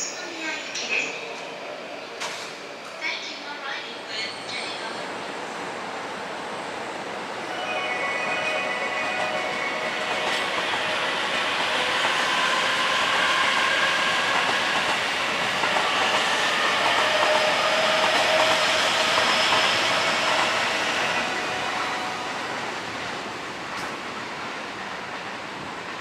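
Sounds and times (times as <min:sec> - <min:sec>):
train wheels on rails: 0:02.1 - 0:04.8, 0:06.7 - 0:26.0.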